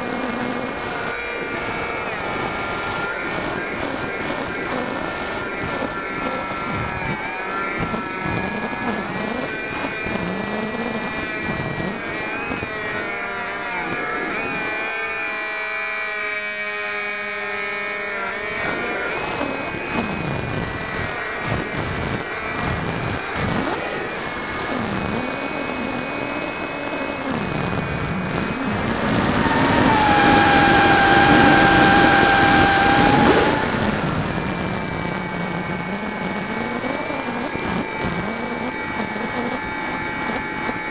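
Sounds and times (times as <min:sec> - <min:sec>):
model plane motor whining: 0:00.0 - 0:40.9.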